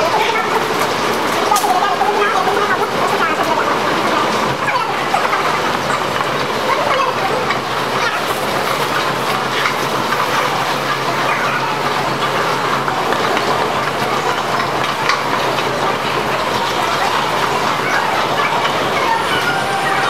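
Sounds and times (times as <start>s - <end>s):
moving walkway mechanical noise: 0.0s - 20.0s
people walking: 0.0s - 20.0s.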